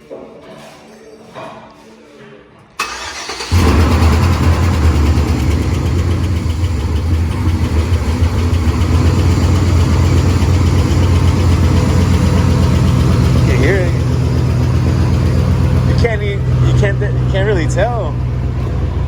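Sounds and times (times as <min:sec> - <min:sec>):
truck engine idling: 0:02.8 - 0:19.0.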